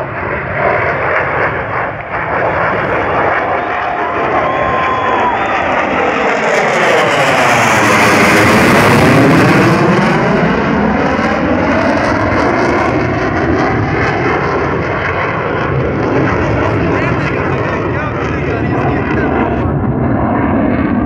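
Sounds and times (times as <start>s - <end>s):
jet engine passing: 0.0s - 21.0s.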